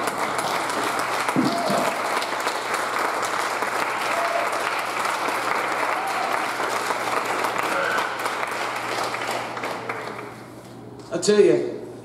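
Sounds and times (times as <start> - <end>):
congregation applauding: 0.0 - 10.5.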